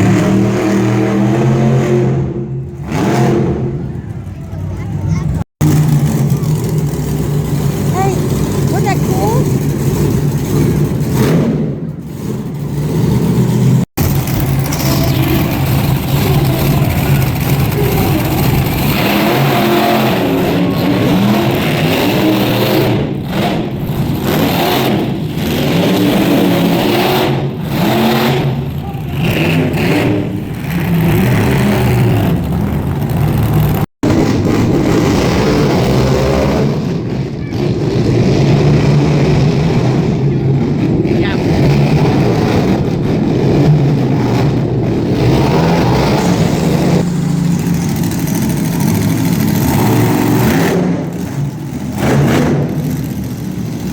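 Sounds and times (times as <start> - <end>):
monster truck engines revving: 0.0 - 53.9.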